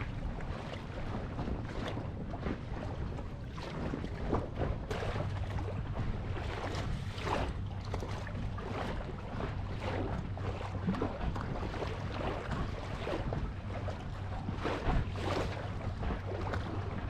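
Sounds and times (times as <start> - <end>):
steady low hum: 0.0 - 17.0
water splashing against boat hull: 0.0 - 17.0.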